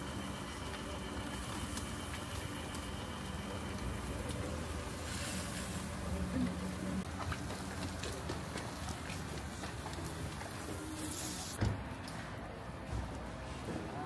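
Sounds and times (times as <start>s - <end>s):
meat skewers sizzling on grill: 0.0s - 11.6s.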